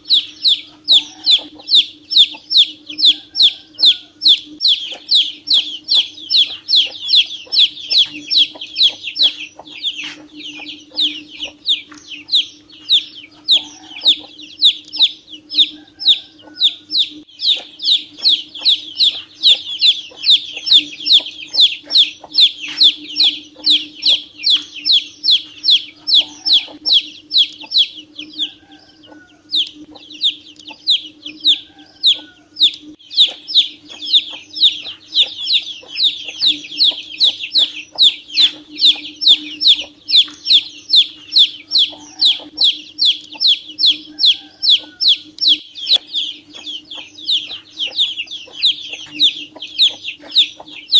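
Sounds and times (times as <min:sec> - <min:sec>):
ducklings peeping: 0:00.0 - 0:50.9
steady low hum: 0:00.0 - 0:50.9.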